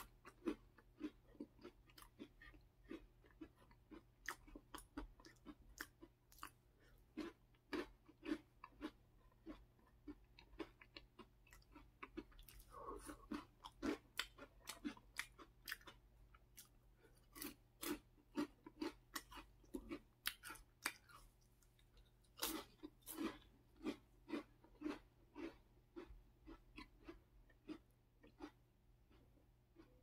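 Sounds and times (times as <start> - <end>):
crunchy snacks being chewed: 0.0 - 30.0.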